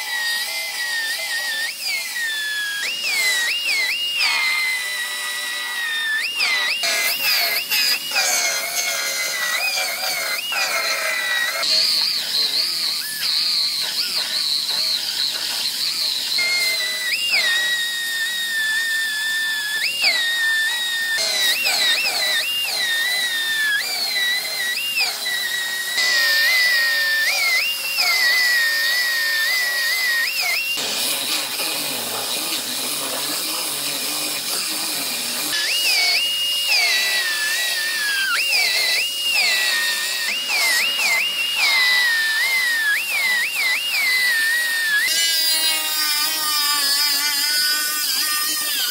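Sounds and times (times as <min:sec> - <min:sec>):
pneumatic cut-off wheel whining: 0:00.0 - 0:48.9.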